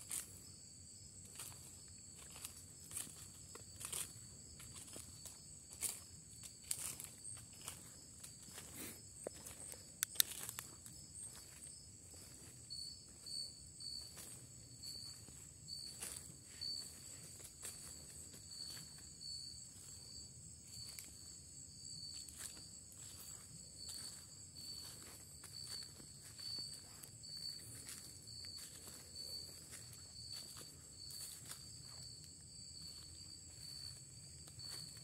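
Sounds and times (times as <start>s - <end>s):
insect chirping: 0.0s - 35.0s
insect high continuous tone: 0.0s - 35.0s
footsteps on forest floor: 1.2s - 21.4s, 22.0s - 35.0s.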